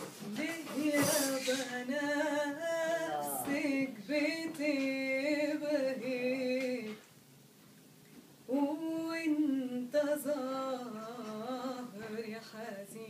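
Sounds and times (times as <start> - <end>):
woman singing unaccompanied: 0.0 - 7.1, 8.5 - 13.0.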